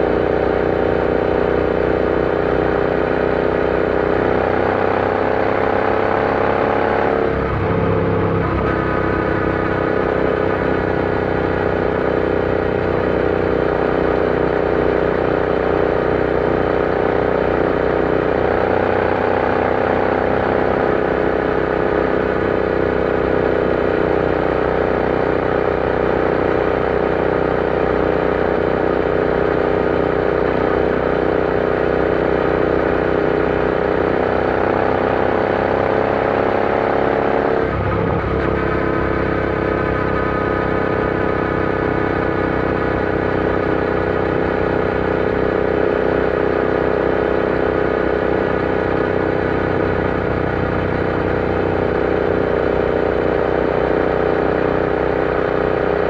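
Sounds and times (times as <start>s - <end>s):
motorcycle engine running on road: 0.0s - 56.0s.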